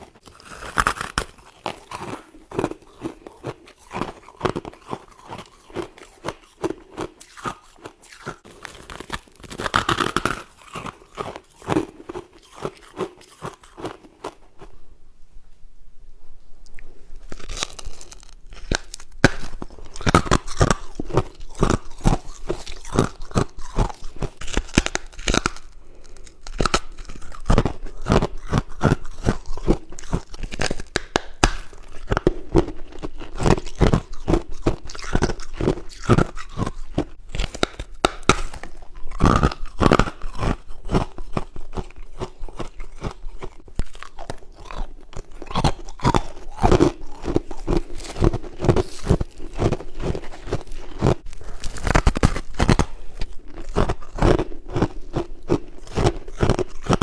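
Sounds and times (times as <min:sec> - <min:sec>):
person chewing crunchy ice: 0:00.0 - 0:14.8, 0:17.2 - 0:57.0.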